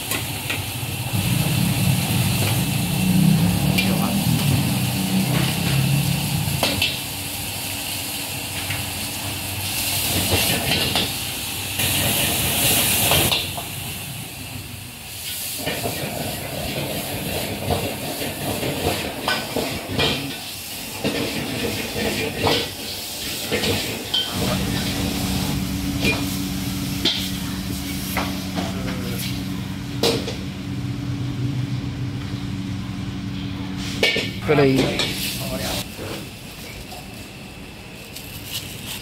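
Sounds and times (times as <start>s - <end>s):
food sizzling in wok: 0.0s - 30.8s, 33.7s - 37.3s.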